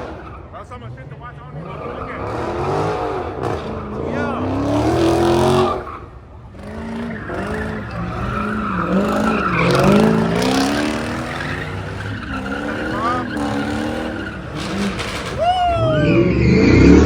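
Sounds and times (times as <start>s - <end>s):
tyres squealing: 0.0s - 16.5s
car engine revving: 0.0s - 17.0s.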